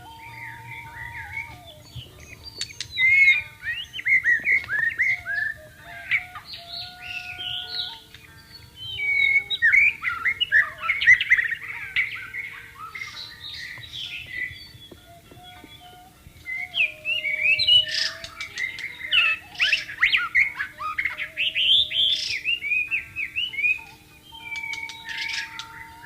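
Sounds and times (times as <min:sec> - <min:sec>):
faint long held notes: 0:00.0 - 0:26.0
songbird singing whistled phrases: 0:00.0 - 0:26.0.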